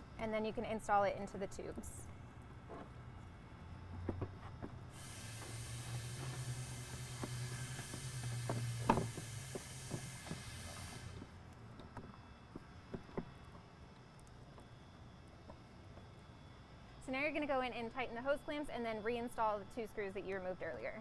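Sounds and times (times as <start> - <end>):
steady hiss with low hum: 0.0 - 21.0.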